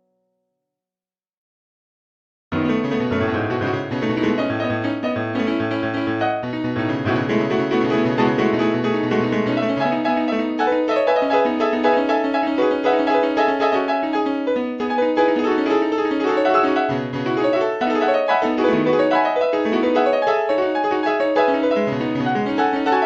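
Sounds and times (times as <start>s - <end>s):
piano music: 2.6s - 23.0s.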